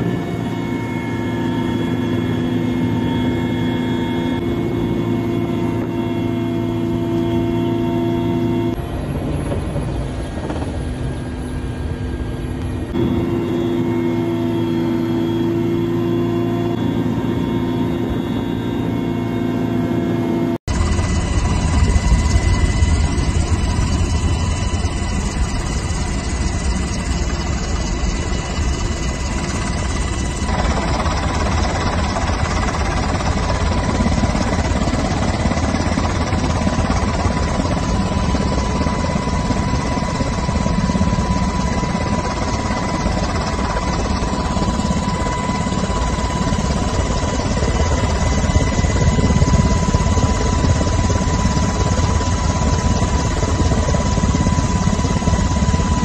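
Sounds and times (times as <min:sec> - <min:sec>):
helicopter engine and rotor running: 0:00.0 - 0:56.0.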